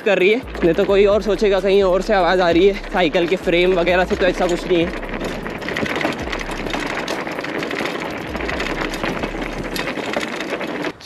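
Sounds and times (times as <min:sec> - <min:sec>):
bike rattling and creaking: 0:00.0 - 0:11.0
tyres crunching over gravel: 0:00.0 - 0:11.0.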